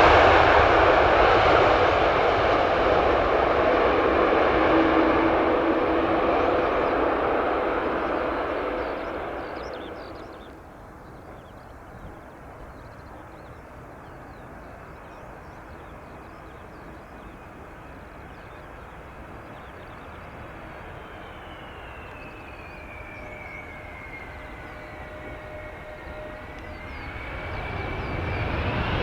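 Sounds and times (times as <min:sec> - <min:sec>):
distant airliner rumble: 0:00.0 - 0:29.0
jet engine whine: 0:00.0 - 0:29.0.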